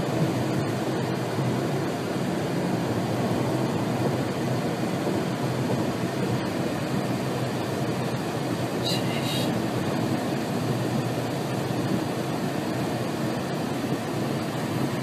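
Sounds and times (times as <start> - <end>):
road and wind noise in car: 0.0 - 15.0.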